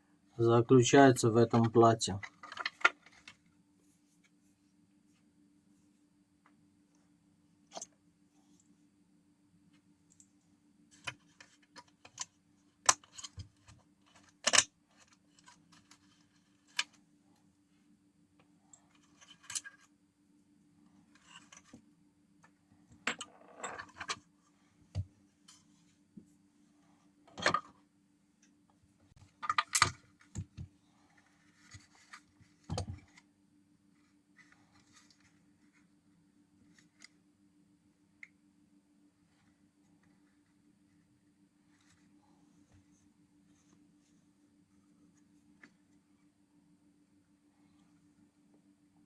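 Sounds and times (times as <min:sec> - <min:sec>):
faint hum: 0:03.0 - 0:49.0.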